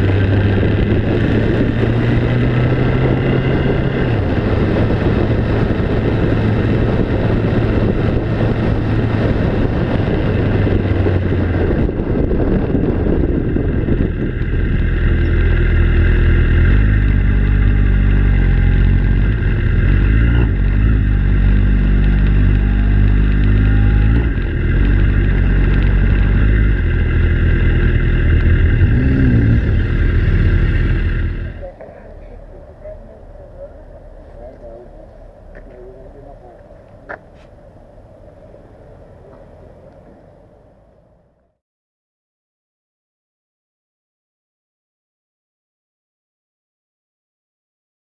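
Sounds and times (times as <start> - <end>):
vehicle engine droning: 0.0 - 41.6.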